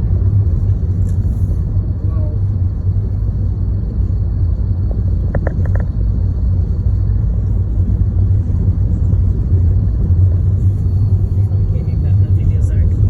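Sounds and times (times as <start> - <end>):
car driving on snowy road: 0.0 - 13.0.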